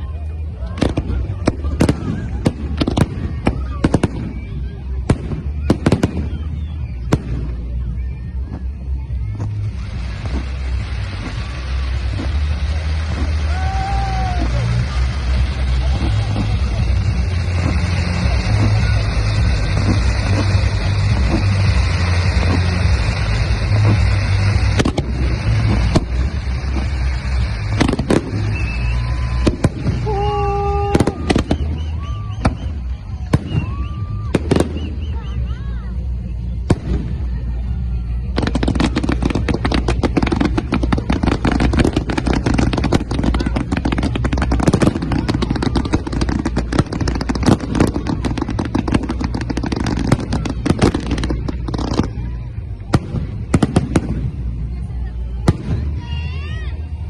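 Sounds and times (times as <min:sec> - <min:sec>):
fireworks bangs: 0:00.0 - 0:57.0
fireworks crackling: 0:00.0 - 0:57.0
fireworks whistling: 0:00.0 - 0:57.0.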